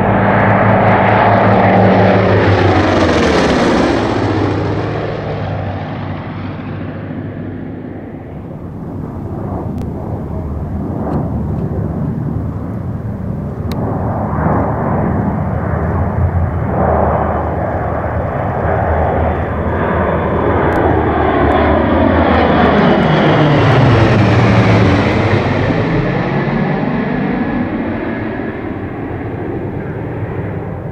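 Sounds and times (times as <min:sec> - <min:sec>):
propeller plane engines flying past: 0:00.0 - 0:30.9.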